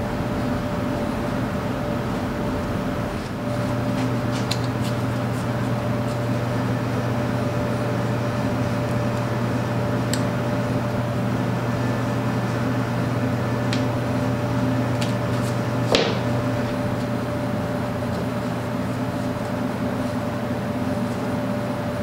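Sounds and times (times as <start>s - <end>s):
workshop machinery hum: 0.0s - 22.0s.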